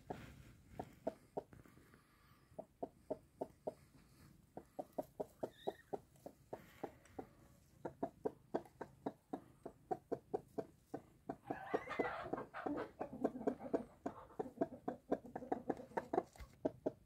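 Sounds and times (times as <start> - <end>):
hen clucking: 0.0 - 1.6, 2.5 - 17.0.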